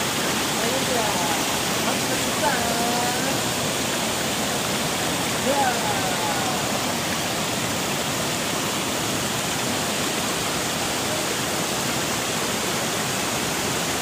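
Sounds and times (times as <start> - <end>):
stream cascading over boulders: 0.0 - 14.0
waterfall rushing: 0.0 - 14.0.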